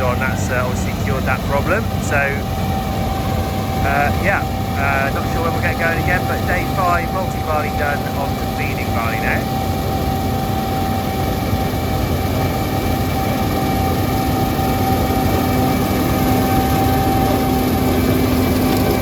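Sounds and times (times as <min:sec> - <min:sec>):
combine harvester machinery drone: 0:00.0 - 0:19.0.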